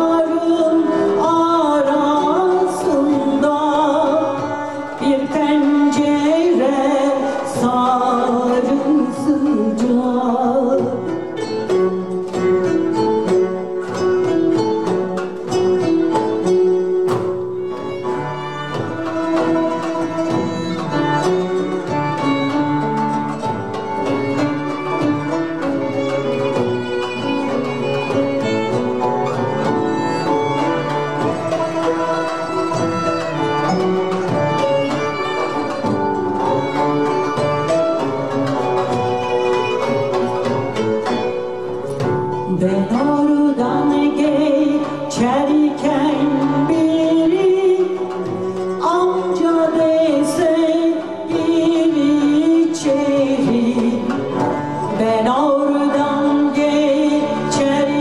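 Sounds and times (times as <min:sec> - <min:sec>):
plucked string melody: 0:00.0 - 0:58.0
sustained bowed strings: 0:00.0 - 0:58.0.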